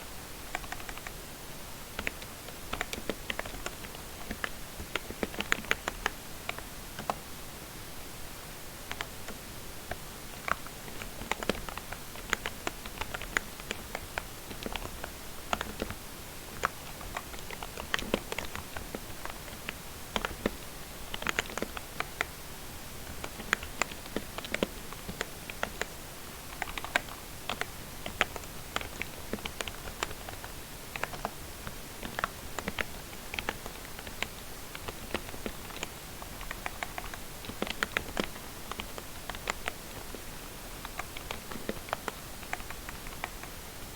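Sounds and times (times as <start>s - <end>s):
soft membrane keyboard typing: 0.5s - 1.2s, 2.0s - 7.2s, 8.9s - 22.3s, 23.1s - 25.9s, 26.5s - 40.2s, 40.8s - 43.6s.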